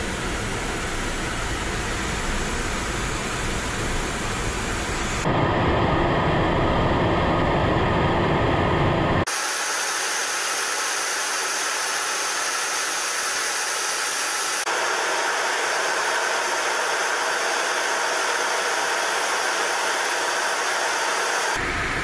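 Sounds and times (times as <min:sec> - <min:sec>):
jet cockpit airflow hiss: 0:00.0 - 0:05.3, 0:09.3 - 0:22.0.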